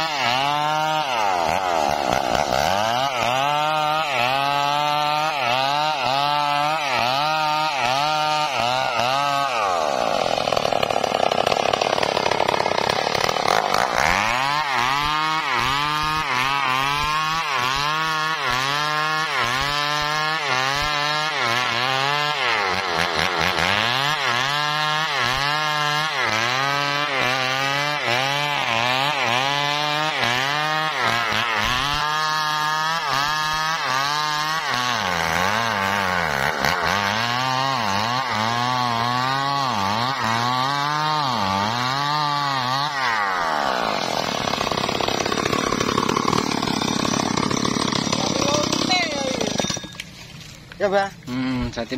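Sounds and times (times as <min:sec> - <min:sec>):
chainsaw cutting log: 0:00.0 - 0:51.9.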